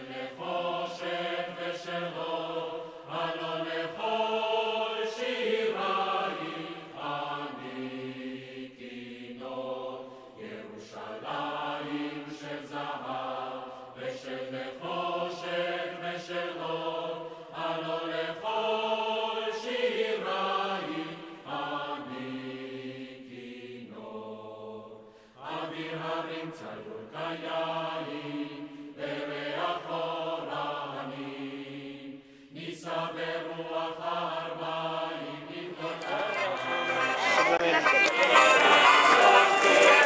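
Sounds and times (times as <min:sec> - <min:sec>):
choir singing a slow chant: 0:00.0 - 0:37.2.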